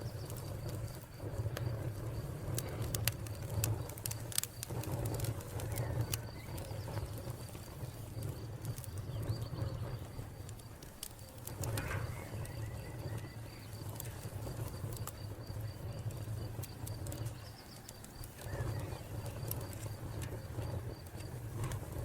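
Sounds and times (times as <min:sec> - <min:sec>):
cricket chirping: 0:00.0 - 0:22.0
wood fire crackling and popping: 0:00.0 - 0:22.0.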